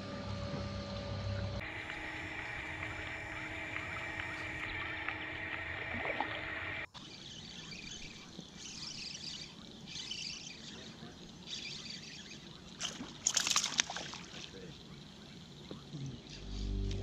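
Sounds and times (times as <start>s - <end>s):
trolling motor whine: 0.0s - 13.5s, 14.7s - 17.0s
water lapping: 1.6s - 16.6s.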